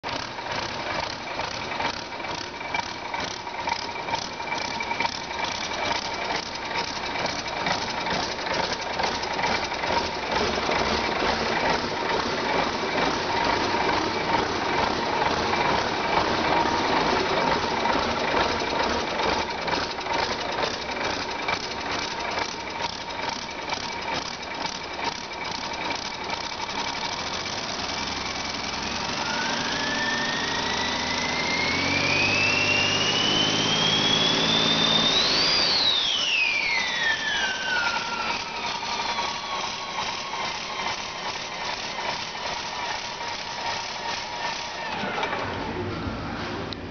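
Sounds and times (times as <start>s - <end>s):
diesel engine clatter: 0.0s - 46.9s
turbocharger whine: 0.0s - 46.9s.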